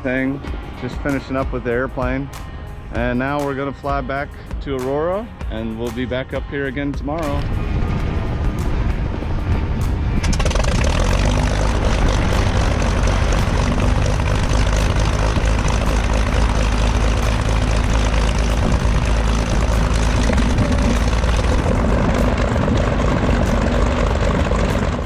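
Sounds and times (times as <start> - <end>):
propeller airplane engine drone: 0.0 - 25.0.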